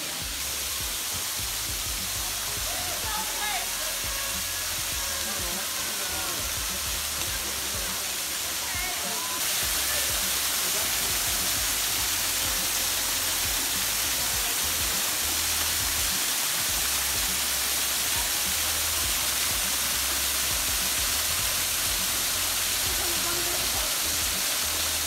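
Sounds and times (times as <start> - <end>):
hiss of falling water: 0.0 - 25.0.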